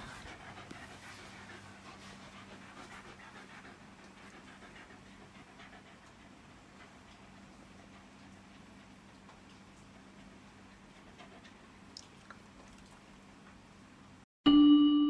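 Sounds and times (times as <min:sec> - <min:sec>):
dog panting: 0:00.0 - 0:13.1.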